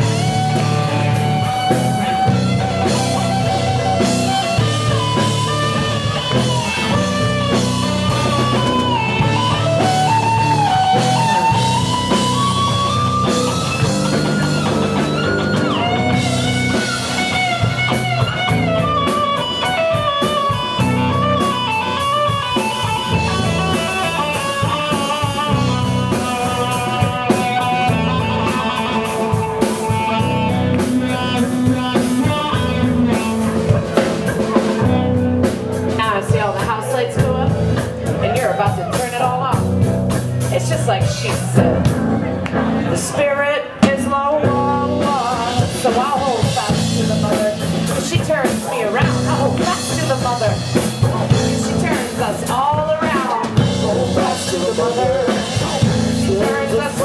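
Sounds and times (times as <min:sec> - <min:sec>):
bending lead guitar line: 0:00.0 - 0:57.0
live rock band playing: 0:00.0 - 0:57.0.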